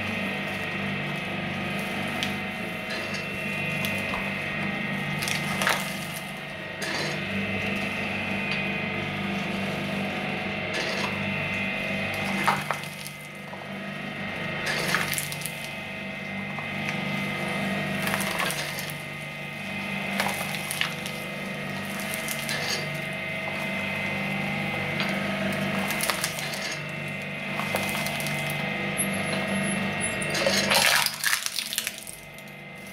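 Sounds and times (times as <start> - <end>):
shredder motor humming: 0.0 - 32.9.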